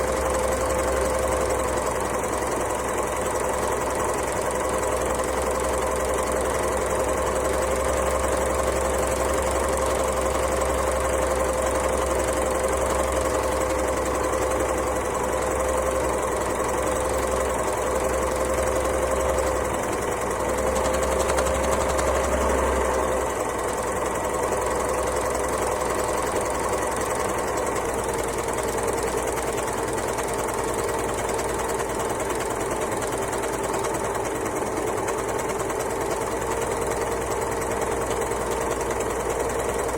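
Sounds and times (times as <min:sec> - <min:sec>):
sewing machine humming: 0:00.0 - 0:39.9.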